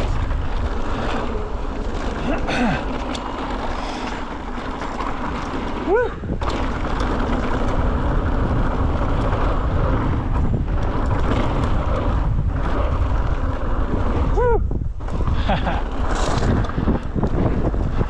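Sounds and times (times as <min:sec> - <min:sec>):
bike clicks and rattles: 0:00.0 - 0:18.0
tyres on dirt and gravel: 0:00.0 - 0:18.0
wind buffeting microphone: 0:00.0 - 0:18.0.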